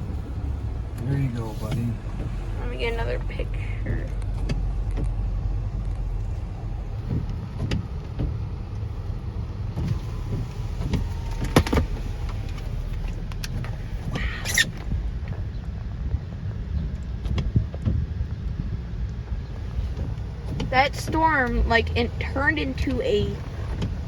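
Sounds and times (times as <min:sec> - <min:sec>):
tyre and engine rumble: 0:00.0 - 0:24.0.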